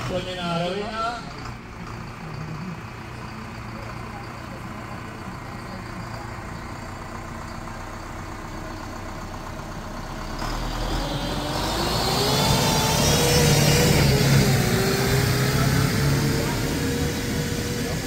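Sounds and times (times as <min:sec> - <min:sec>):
tractor engine revving: 0:00.0 - 0:18.0.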